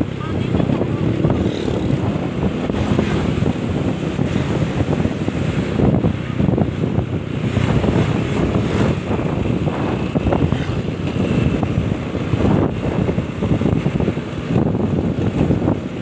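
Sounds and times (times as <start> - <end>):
motorbike road and engine noise: 0.0 - 16.0
wind buffeting microphone: 0.0 - 16.0.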